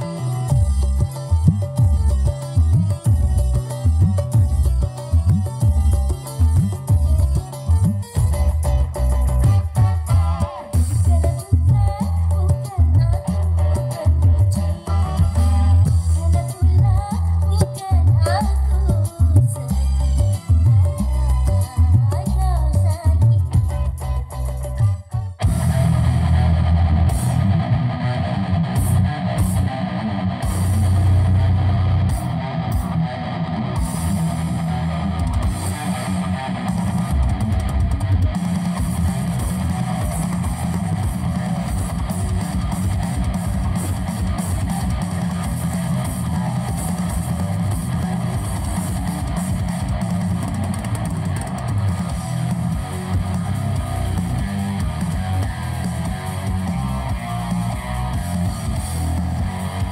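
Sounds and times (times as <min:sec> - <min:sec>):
loud music with guitar and bass: 0:00.0 - 0:59.9.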